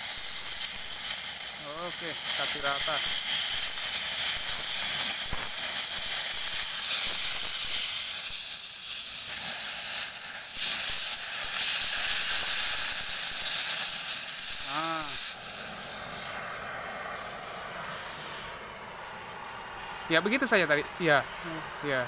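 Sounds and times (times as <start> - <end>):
cutting torch hissing: 0.0 - 22.0.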